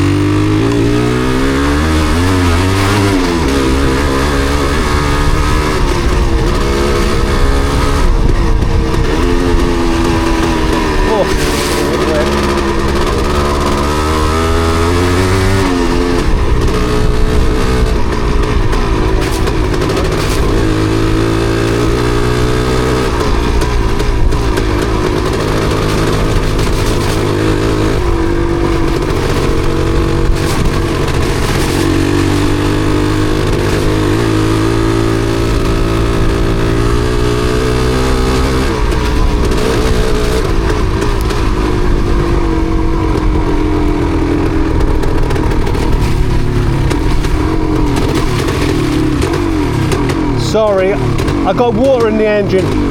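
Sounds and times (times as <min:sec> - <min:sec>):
motorcycle engine revving and misfiring: 0:00.0 - 0:52.9.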